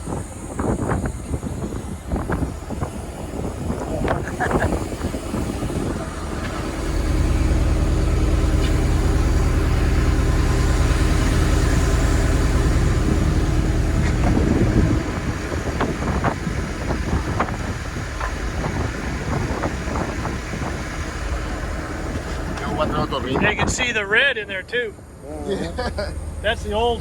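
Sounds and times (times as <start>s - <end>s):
sandblasting rumble and hiss: 0.0s - 27.0s.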